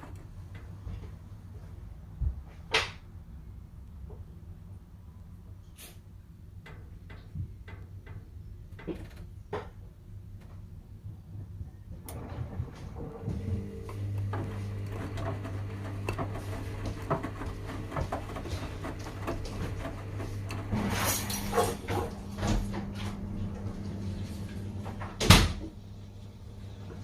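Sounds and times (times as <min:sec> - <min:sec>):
washing machine motor hum: 0:00.0 - 0:01.8, 0:06.8 - 0:27.0.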